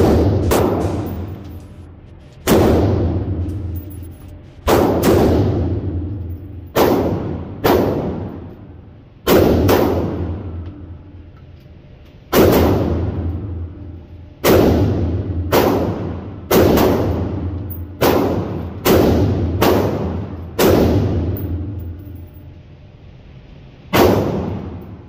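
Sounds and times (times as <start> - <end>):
rifle shots echoing indoors: 0.0 - 11.3, 12.2 - 25.0.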